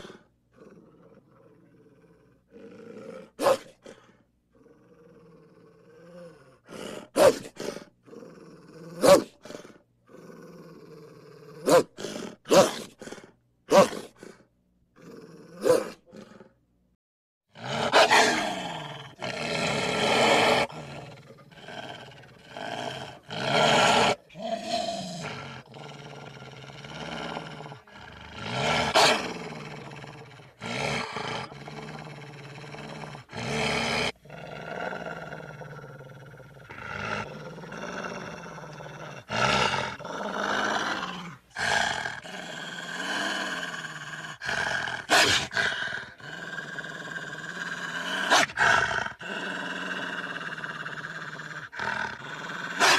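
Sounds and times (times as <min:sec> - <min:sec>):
cartoon wolf growling and snarling: 0:00.0 - 0:16.6, 0:17.5 - 0:52.9.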